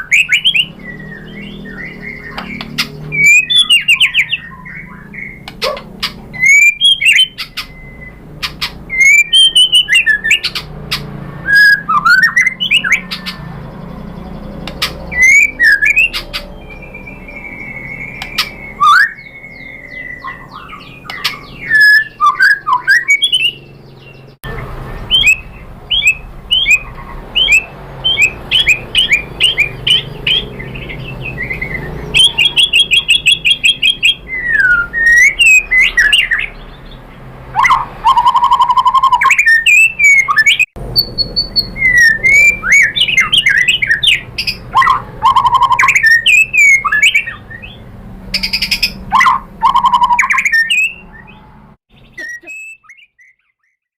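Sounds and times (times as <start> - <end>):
bird singing whistled notes: 0.0 - 37.0, 37.6 - 53.9.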